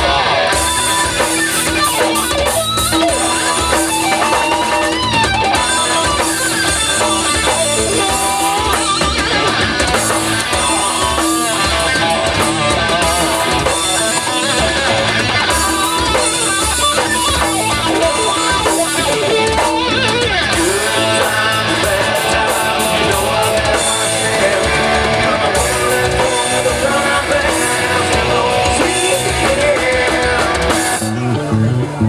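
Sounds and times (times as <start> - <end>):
bass guitar: 0.0 - 32.0
drum kit: 0.0 - 32.0
electric guitar: 0.0 - 32.0.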